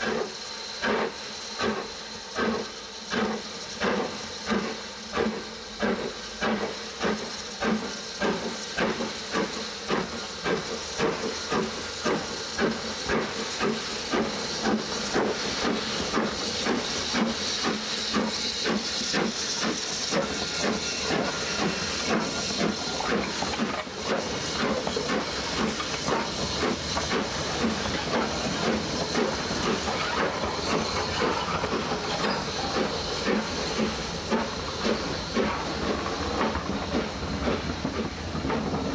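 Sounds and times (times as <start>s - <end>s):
steam hissing: 0.0s - 38.9s
steam locomotive chuffing: 0.0s - 38.9s.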